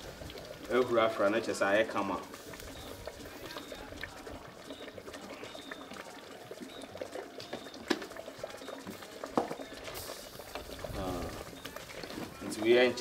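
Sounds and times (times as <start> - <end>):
tomato sauce bubbling in a pot: 0.0 - 13.0.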